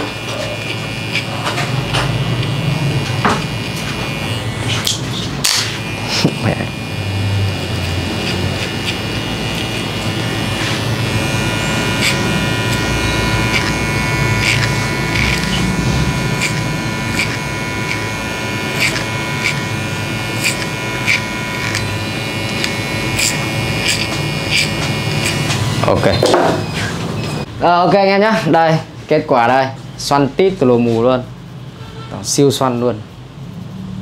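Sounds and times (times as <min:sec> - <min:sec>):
electric hair clipper humming: 0:00.0 - 0:27.5.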